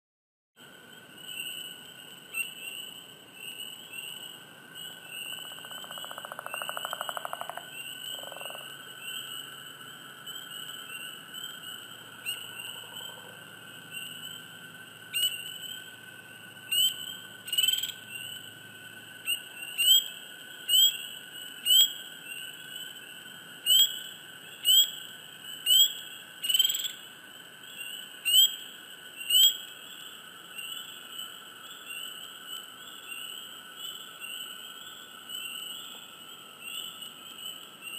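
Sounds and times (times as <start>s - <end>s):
spring peepers chorus: 0.6s - 37.9s.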